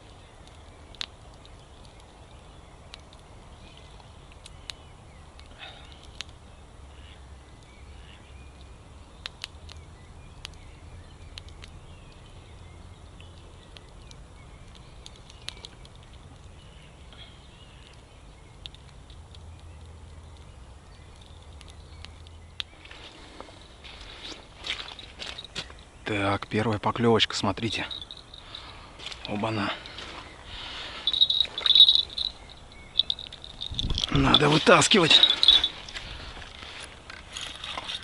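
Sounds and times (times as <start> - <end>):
campfire crackling and popping: 0.0 - 38.0
faint birdsong: 0.0 - 38.0.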